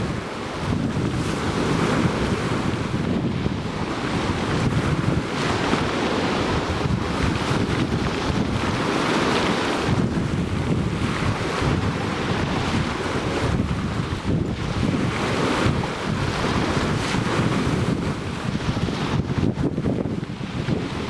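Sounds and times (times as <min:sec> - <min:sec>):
sea surf washing onto shore: 0:00.0 - 0:21.0
wind rumble on microphone: 0:00.0 - 0:21.0.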